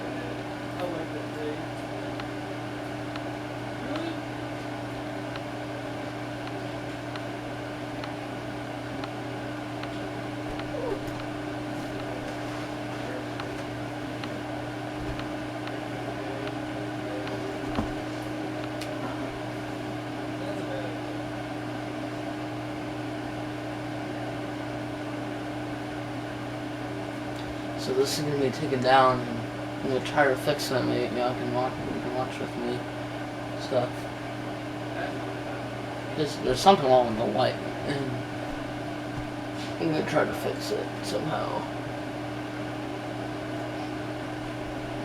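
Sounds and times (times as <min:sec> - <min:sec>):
ceiling fan motor hum: 0:00.0 - 0:45.0.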